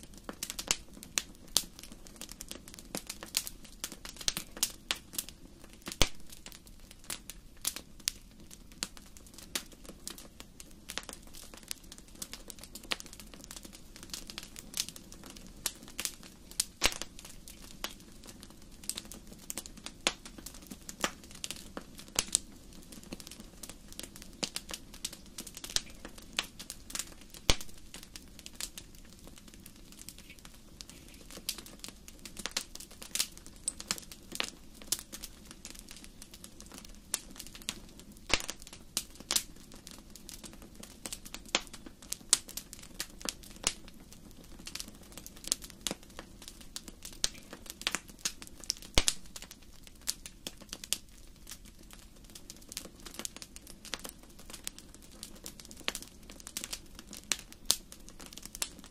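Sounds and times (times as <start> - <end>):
low fire burning: 0.0 - 58.9
wood fire popping and snapping: 0.0 - 58.9.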